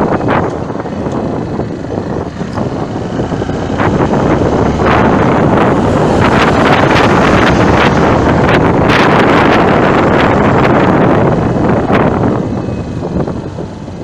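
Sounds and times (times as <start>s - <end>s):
road traffic: 0.0s - 14.0s
wind buffeting microphone: 0.0s - 14.0s.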